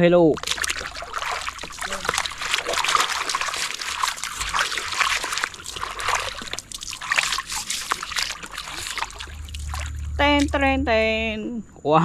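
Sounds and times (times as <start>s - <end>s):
water trickling and splashing: 0.0s - 11.4s.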